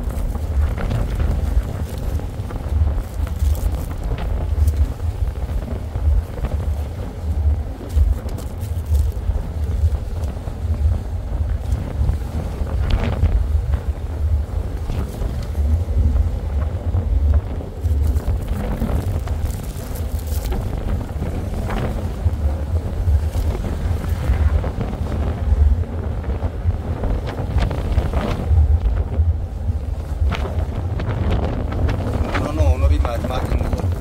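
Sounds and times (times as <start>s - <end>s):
wind buffeting the microphone: 0.0s - 34.0s.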